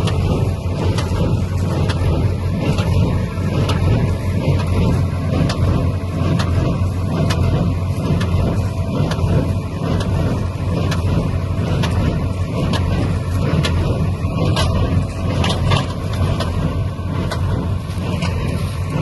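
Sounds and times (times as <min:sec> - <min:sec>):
machinery clicks and knocks: 0:00.0 - 0:19.0
tractor running under load: 0:00.0 - 0:19.0.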